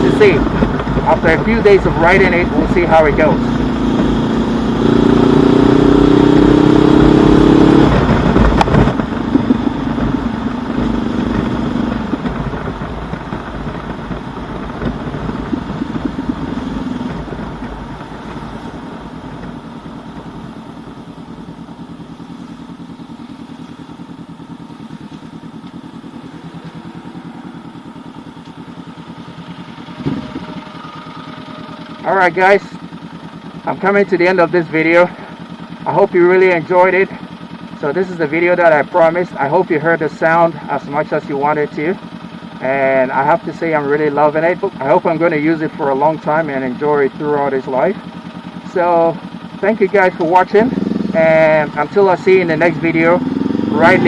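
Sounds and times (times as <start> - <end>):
motorcycle engine revving: 0.0 - 46.8, 47.4 - 54.0.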